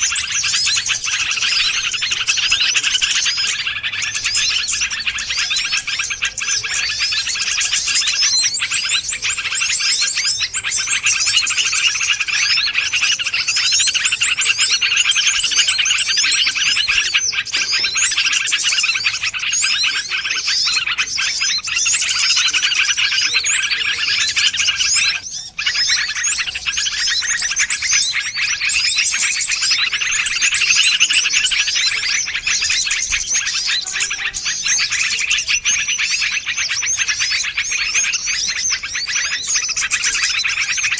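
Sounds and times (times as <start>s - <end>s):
small birds chirping and twittering: 0.0s - 40.9s.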